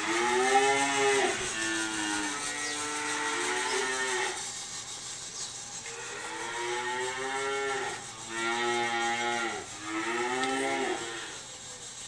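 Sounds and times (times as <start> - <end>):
cattle mooing: 0.0 - 4.4, 5.8 - 11.4.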